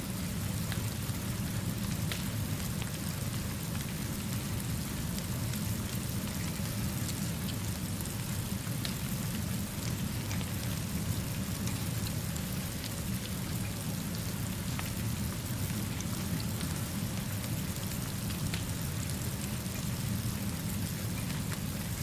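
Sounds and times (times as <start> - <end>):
steady rainfall: 0.0 - 22.0.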